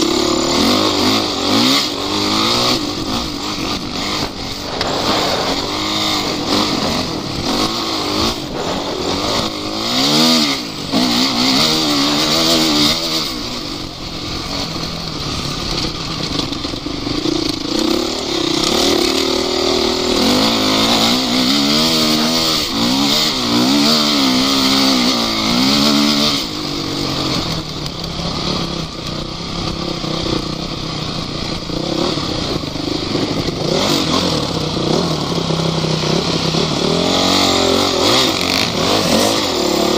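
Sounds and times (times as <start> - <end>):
off-road vehicle engine revving: 0.0 - 39.9
rushing noise over rough terrain: 0.0 - 39.9.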